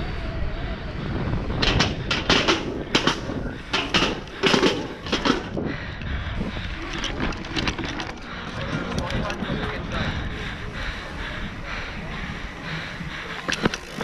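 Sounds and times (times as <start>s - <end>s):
bike rattling over bumps: 0.0s - 14.0s
tyre and wind rumble: 0.0s - 14.0s.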